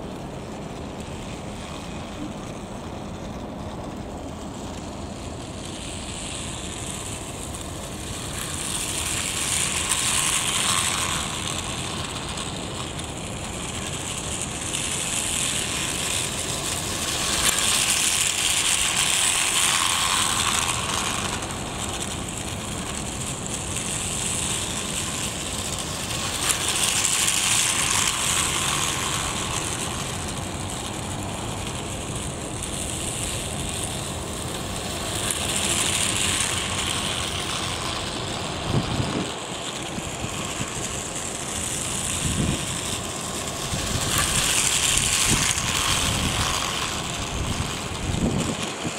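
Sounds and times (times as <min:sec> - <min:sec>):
toy train motor whirring: 0:00.0 - 0:48.9
wheels clattering on plastic track: 0:00.0 - 0:48.9.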